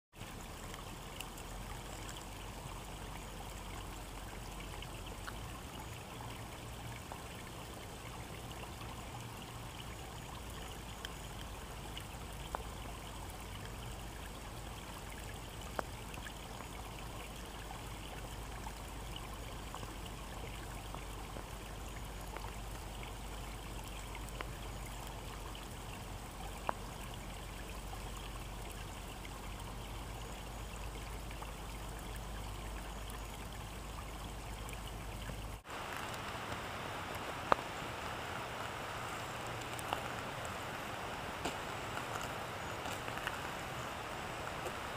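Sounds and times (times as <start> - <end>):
brook babbling over stones: 0.1 - 44.9.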